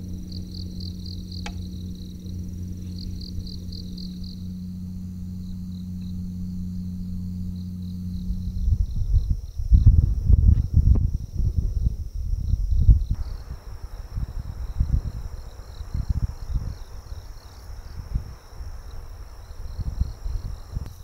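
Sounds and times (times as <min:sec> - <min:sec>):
crickets chirping in pulses: 0:00.0 - 0:21.0
high insect trill: 0:00.0 - 0:21.0
low rumbling noise: 0:00.0 - 0:21.0
low steady hum: 0:00.0 - 0:21.0.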